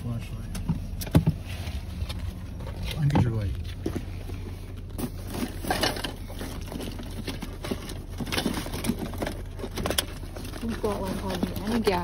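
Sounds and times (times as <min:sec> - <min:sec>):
car low hum: 0:00.0 - 0:12.0
rustling and knocks of gear: 0:00.6 - 0:12.0.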